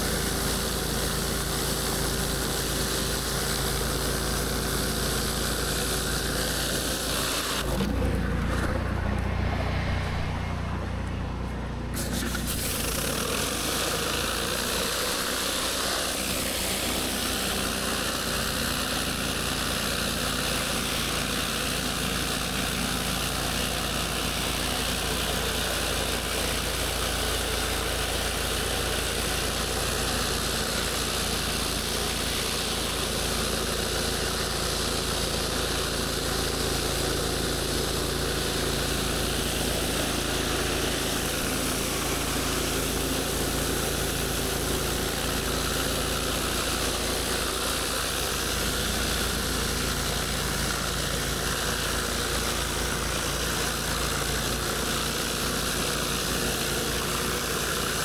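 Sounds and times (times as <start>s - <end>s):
high-pressure water spray hiss: 0.0s - 7.8s, 11.9s - 32.6s, 38.0s - 58.0s
pressure washer engine hum: 0.0s - 58.0s.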